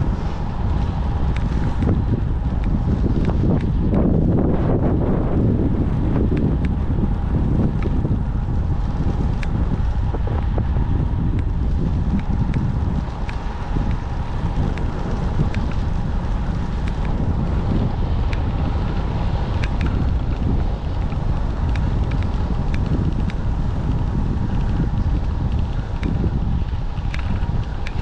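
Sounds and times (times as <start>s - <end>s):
wind buffeting microphone: 0.0s - 28.0s
light ticks: 0.6s - 4.1s, 6.2s - 6.8s, 7.6s - 9.7s, 11.3s - 28.0s.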